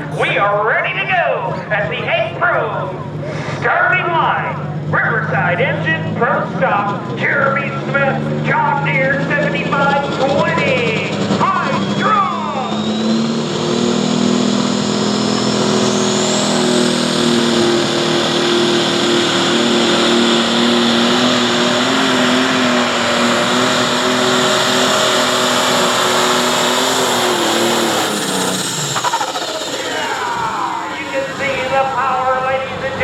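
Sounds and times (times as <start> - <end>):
tractor diesel engine running under load: 0.0 - 33.0.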